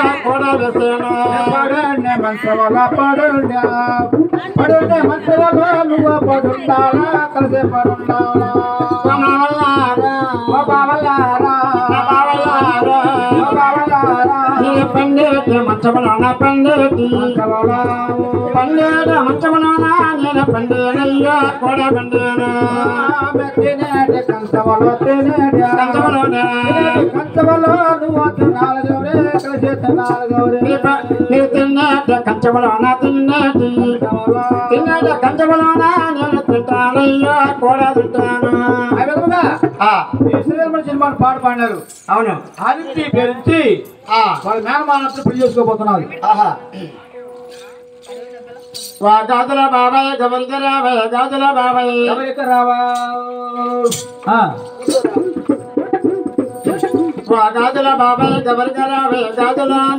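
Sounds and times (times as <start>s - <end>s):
person singing: 0.0s - 40.5s, 46.6s - 59.9s
hand drum beat: 0.0s - 41.9s, 52.0s - 59.9s.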